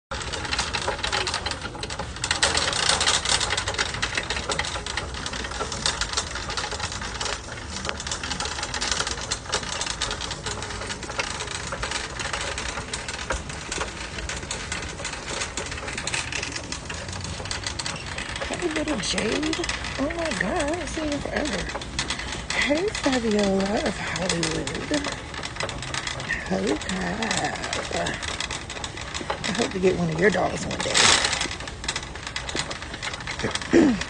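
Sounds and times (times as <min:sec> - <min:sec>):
shopping cart rattling: 0:00.1 - 0:34.0.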